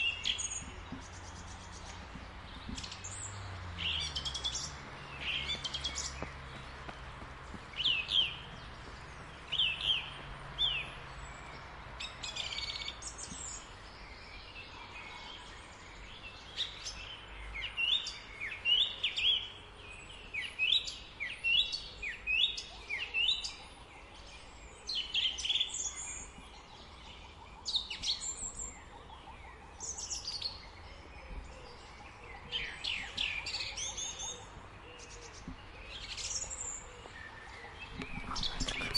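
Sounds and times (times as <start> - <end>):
faint outdoor background: 0.0 - 38.9
small birds chirping: 0.0 - 38.9.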